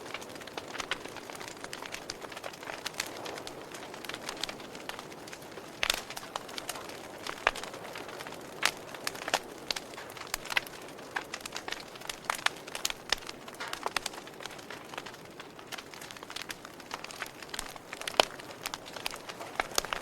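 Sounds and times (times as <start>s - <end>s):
fire popping and snapping: 0.0s - 20.0s
wood fire crackling: 0.0s - 20.0s.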